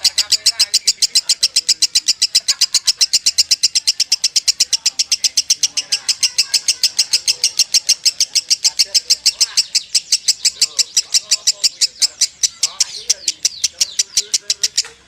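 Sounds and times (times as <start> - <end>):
lovebird chattering: 0.0 - 15.0.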